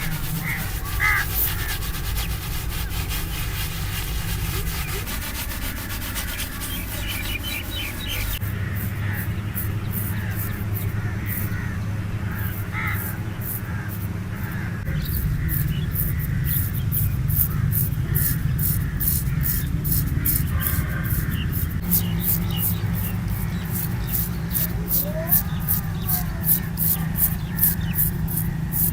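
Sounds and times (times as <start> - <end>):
razor scraping over hair and skin: 0.0 - 11.6, 12.3 - 28.9
steady low hum: 0.0 - 28.9.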